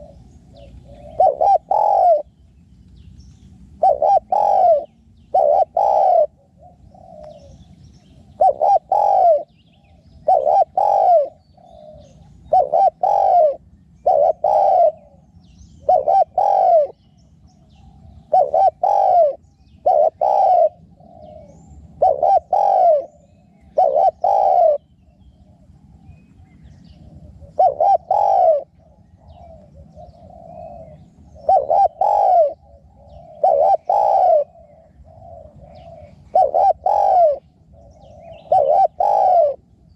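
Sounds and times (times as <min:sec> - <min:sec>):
dove cooing: 0:00.0 - 0:02.4, 0:03.3 - 0:39.9.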